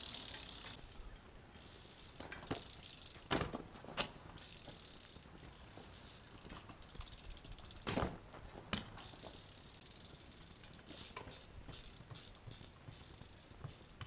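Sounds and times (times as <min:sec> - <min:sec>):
bike knocks and clacks on concrete: 0:00.0 - 0:00.8, 0:02.1 - 0:14.0.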